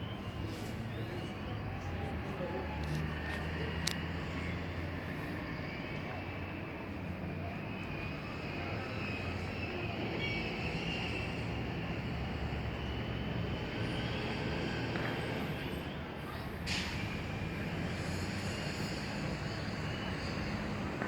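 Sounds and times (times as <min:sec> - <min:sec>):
city background rumble: 0:00.0 - 0:21.0.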